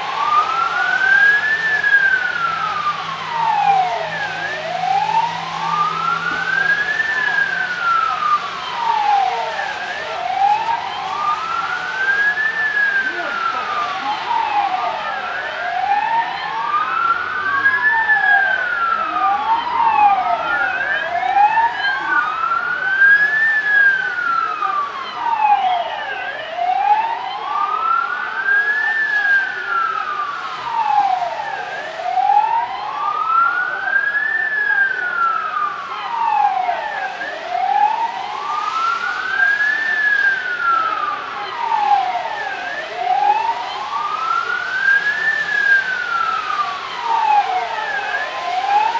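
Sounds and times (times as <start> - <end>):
sirens wailing: 0.0 - 48.9.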